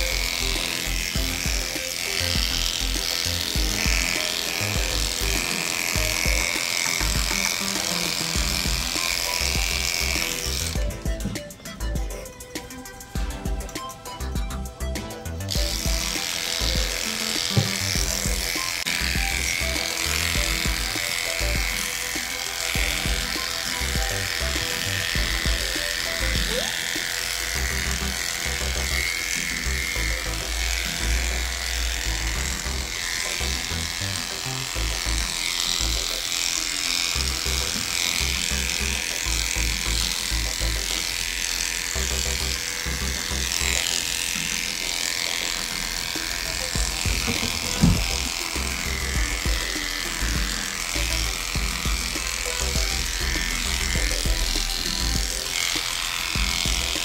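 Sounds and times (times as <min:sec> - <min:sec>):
background music with steady beat: 0:00.0 - 0:57.0
electric dog clippers buzzing: 0:00.0 - 0:57.0.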